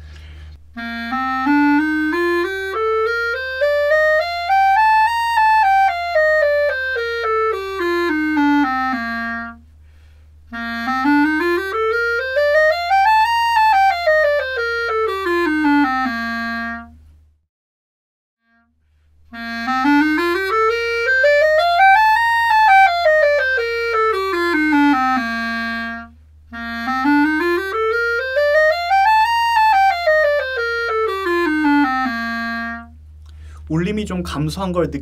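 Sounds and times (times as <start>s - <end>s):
clarinet playing scales: 0.0s - 17.1s, 18.4s - 34.0s.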